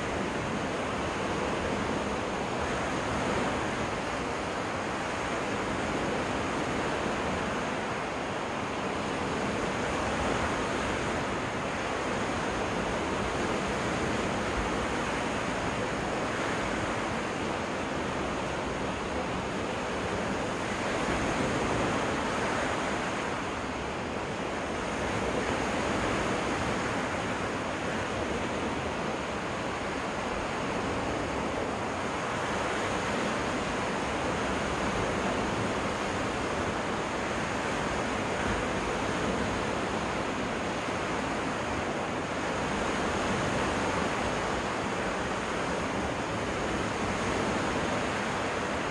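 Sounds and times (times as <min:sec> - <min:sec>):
lake waves washing onto beach: 0:00.0 - 0:48.9.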